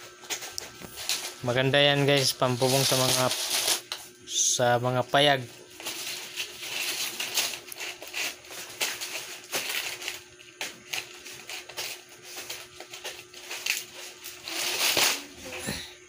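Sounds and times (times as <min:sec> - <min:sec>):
palm leaves rustling and crackling: 0:00.3 - 0:04.0, 0:05.1 - 0:15.6.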